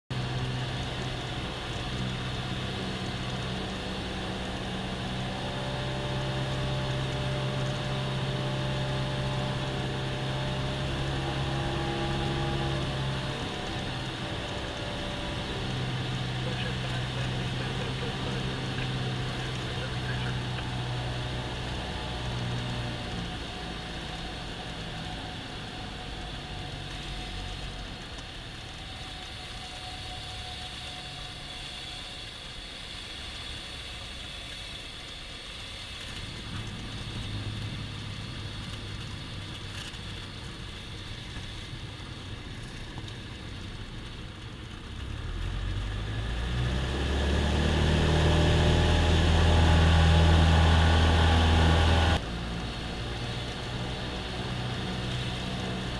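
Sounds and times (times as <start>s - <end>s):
small plane engine and propeller: 0.1s - 55.9s.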